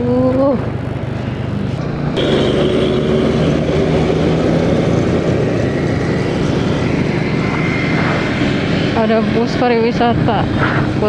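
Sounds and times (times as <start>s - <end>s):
road traffic: 0.0s - 11.0s
wind noise: 0.0s - 11.0s.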